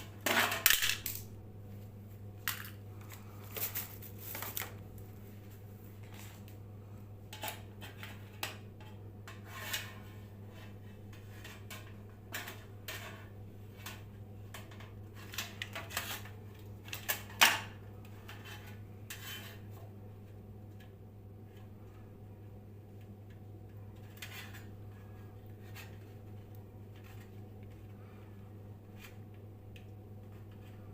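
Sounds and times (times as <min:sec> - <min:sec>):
low electrical hum: 0:00.0 - 0:30.9.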